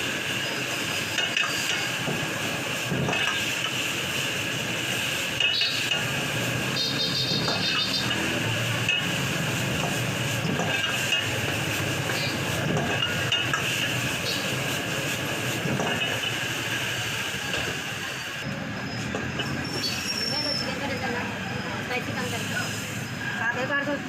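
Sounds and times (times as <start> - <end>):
wok burner roaring: 0.0 - 24.0.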